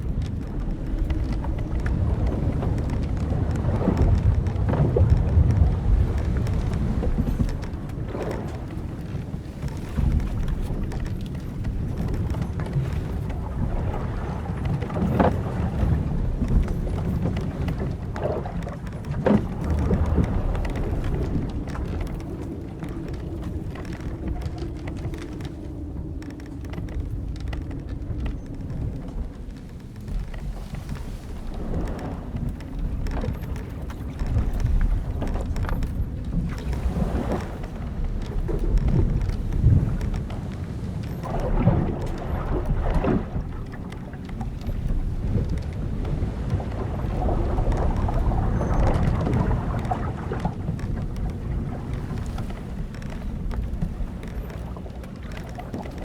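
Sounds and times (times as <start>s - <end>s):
wind and waves rumble: 0.0s - 56.0s
wooden ship timbers creaking: 0.0s - 56.0s.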